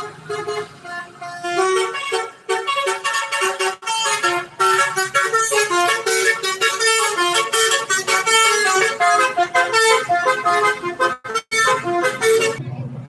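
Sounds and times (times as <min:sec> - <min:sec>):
musical air horn tune: 0:00.0 - 0:12.6.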